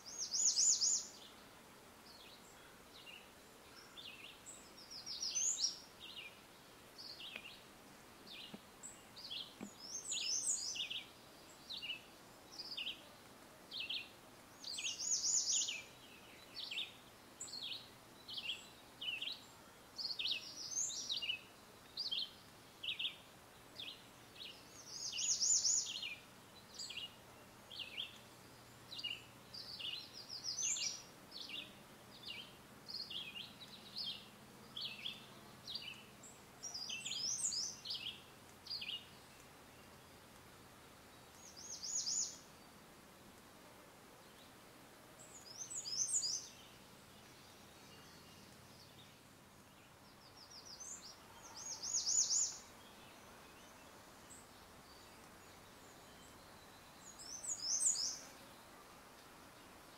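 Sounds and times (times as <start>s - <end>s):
bird song phrase: 0.0s - 7.7s, 8.3s - 40.3s, 41.0s - 42.8s, 45.2s - 59.9s
songbirds chirping: 0.0s - 59.9s.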